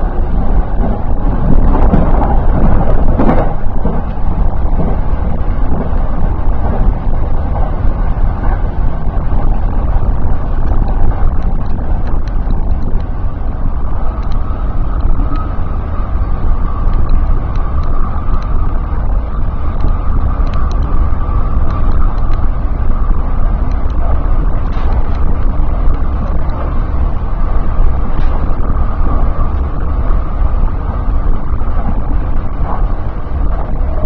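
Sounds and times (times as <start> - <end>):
faint steady whine: 0.0 - 34.0
train wheels rumbling on rail: 0.0 - 34.0.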